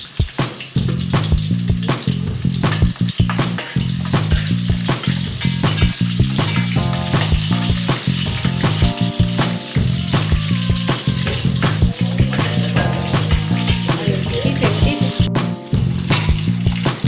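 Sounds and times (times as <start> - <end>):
food sizzling in a hot pan: 0.0 - 17.0
background music with bass line: 0.2 - 17.0
utensil knocking against pan: 0.9 - 15.0, 16.0 - 17.0.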